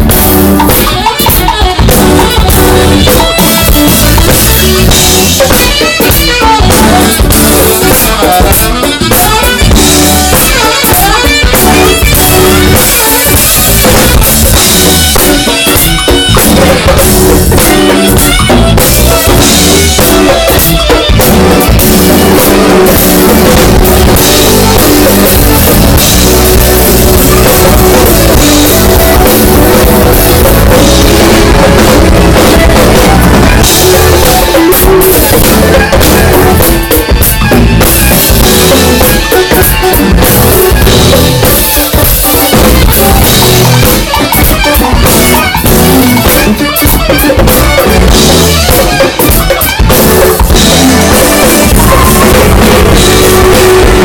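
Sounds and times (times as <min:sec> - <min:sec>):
drum kit: 0:00.0 - 0:54.0
live band playing: 0:00.0 - 0:54.0.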